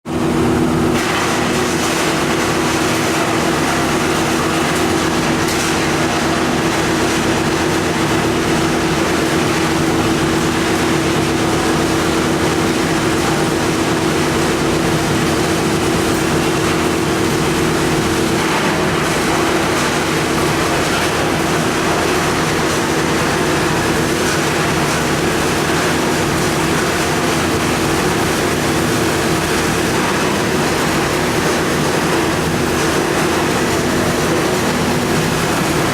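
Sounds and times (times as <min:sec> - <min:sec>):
recycling machine running: 0:00.1 - 0:35.9.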